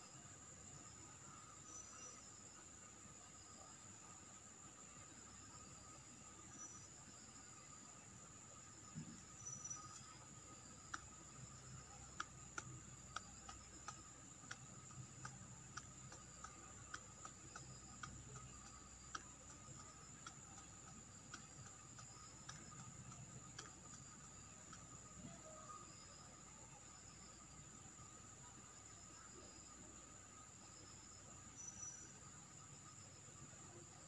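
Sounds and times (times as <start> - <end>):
faint steady hiss: 0.0 - 34.0
soft evenly spaced ticks: 0.0 - 34.0.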